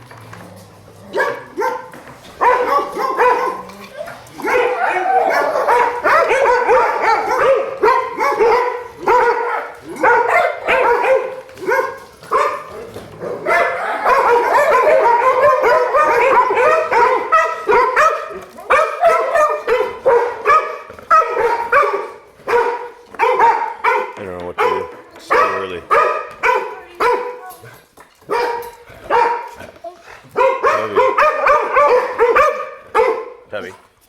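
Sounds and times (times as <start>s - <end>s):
dogs barking and yipping: 0.0s - 33.5s.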